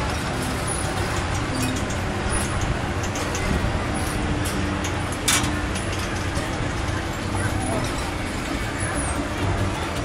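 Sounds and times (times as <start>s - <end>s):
crowd noise: 0.0s - 10.0s
mechanical rumble of rides: 0.0s - 10.0s.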